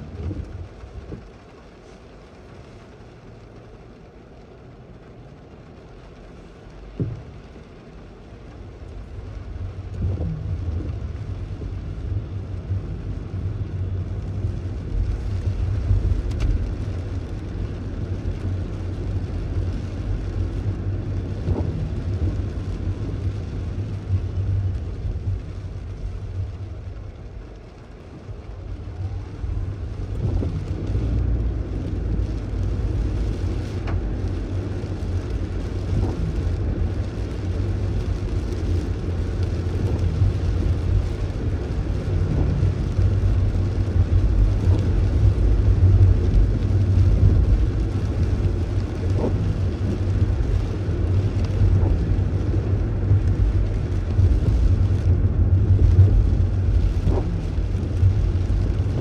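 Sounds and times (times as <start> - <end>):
road and tyre noise: 0.0 - 59.0
tyres hissing on wet road: 0.0 - 59.0.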